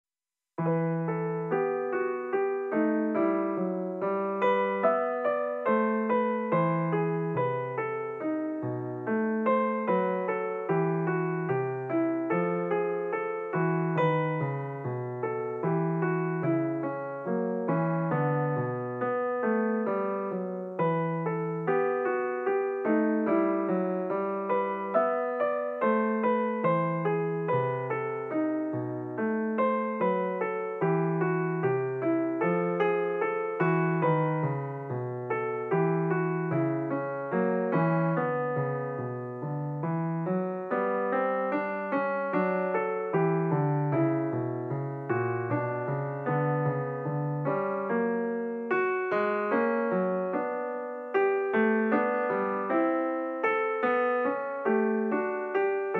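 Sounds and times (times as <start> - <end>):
piano music: 0.6 - 55.9.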